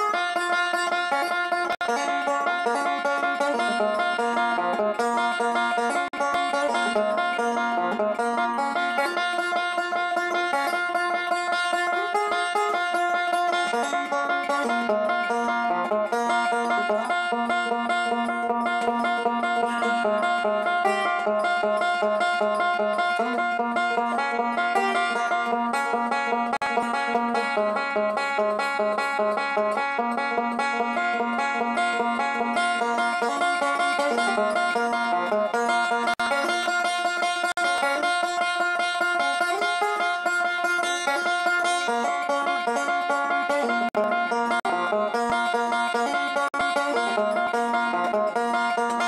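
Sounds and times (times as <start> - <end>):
resonator banjo fingerpicking: 0.0 - 49.0.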